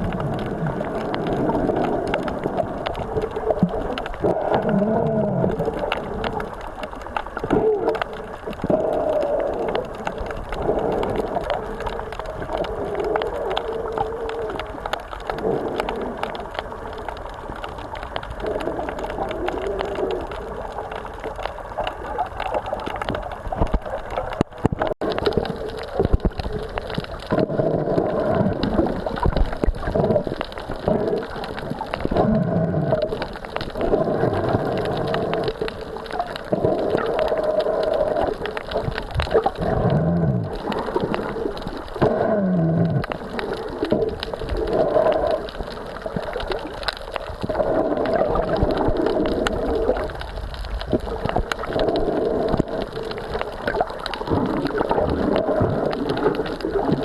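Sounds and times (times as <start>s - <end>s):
sea water sloshing and gurgling: 0.0s - 57.0s.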